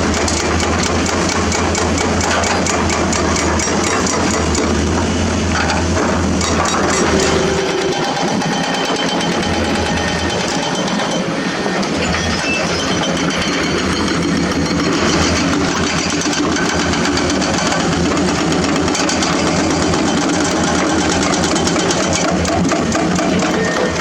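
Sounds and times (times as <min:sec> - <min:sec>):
diesel construction machinery clattering: 0:00.0 - 0:24.0.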